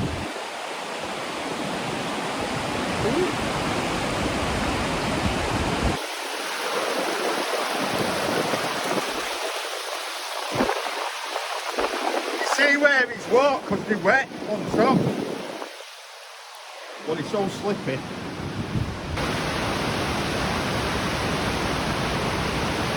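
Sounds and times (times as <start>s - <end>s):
waterfall and stream rushing: 0.0s - 22.9s.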